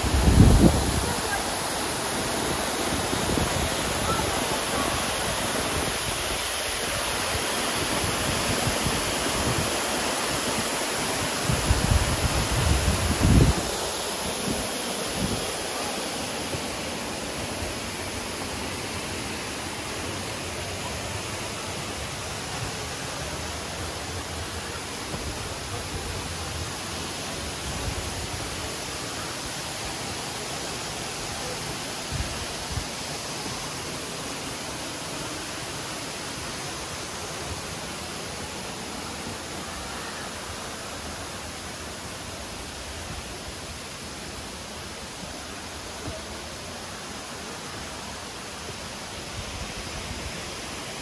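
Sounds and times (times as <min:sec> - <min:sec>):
rushing water hiss: 0:00.0 - 0:51.0.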